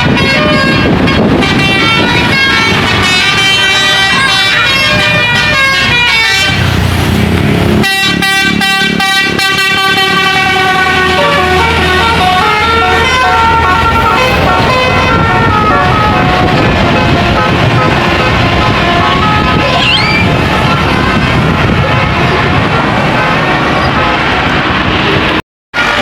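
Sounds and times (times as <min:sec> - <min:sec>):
multi-tone air horn melody: 0:00.0 - 0:06.9, 0:07.8 - 0:25.0
bus engine running: 0:00.0 - 0:26.0.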